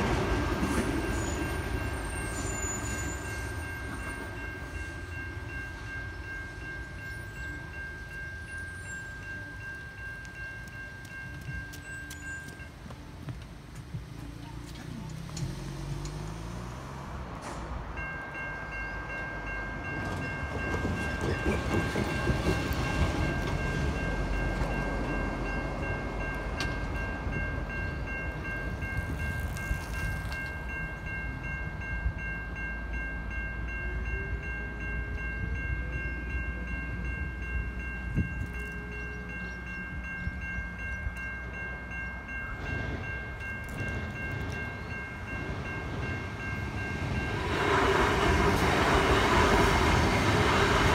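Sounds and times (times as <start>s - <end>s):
road traffic rumble: 0.0s - 50.9s
train approaching: 0.0s - 50.9s
level crossing bell ringing: 0.3s - 12.9s, 18.0s - 47.6s.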